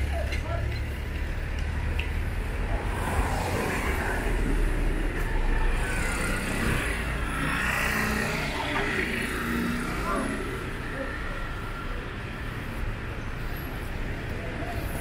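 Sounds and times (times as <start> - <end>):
cars driving by: 0.0 - 15.0.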